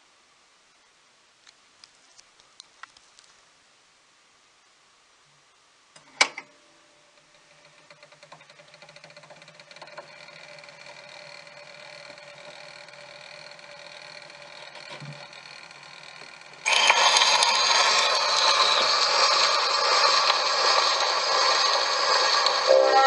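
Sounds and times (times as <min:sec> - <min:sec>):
phonograph surface hiss: 0:00.0 - 0:23.0.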